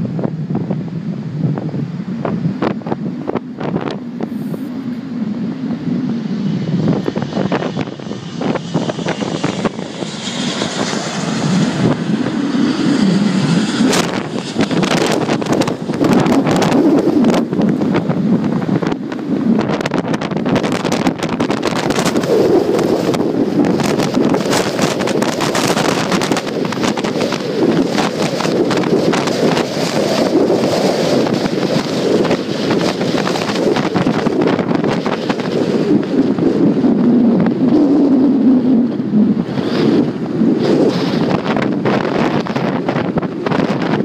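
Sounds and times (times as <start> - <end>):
jet engine blast: 0.0 - 44.0
wind buffeting microphone: 0.0 - 44.0.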